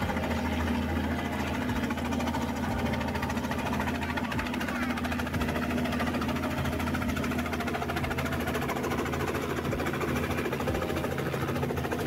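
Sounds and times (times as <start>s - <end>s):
helicopter engine drone: 0.0s - 12.0s.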